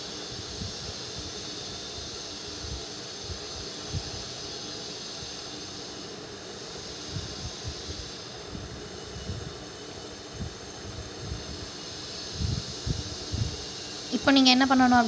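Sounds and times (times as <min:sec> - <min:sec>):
gravy frying hiss: 0:00.0 - 0:15.0.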